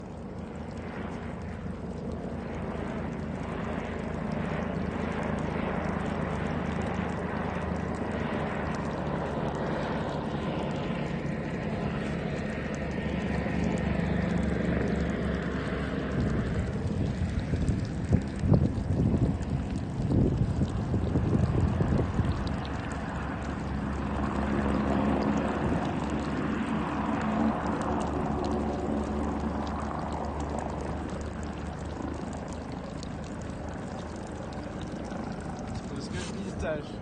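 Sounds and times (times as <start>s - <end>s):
helicopter rotor and engine: 0.0s - 37.0s.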